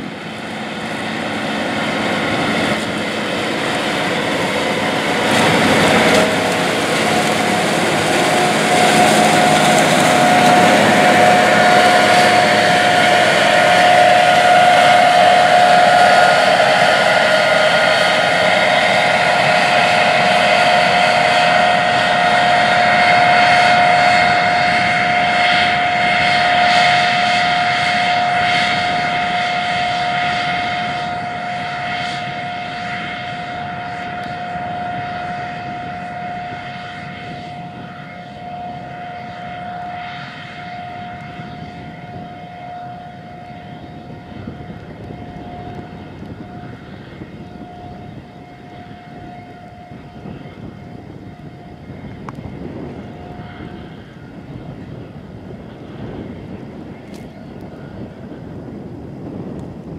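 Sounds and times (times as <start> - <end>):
steady high whine: 0.0 - 59.9
tractor diesel engine under load: 0.0 - 59.9.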